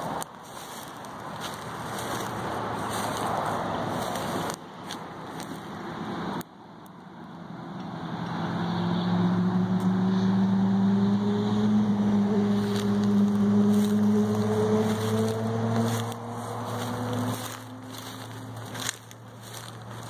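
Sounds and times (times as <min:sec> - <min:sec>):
approaching engine hum: 0:00.0 - 0:06.4, 0:07.0 - 0:20.0.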